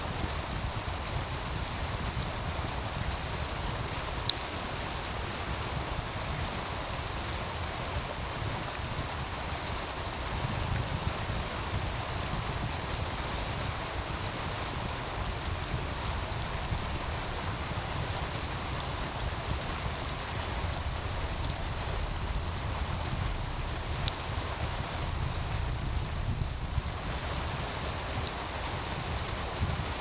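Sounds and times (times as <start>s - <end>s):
stream running: 0.0s - 30.0s
wood fire crackling: 0.0s - 30.0s.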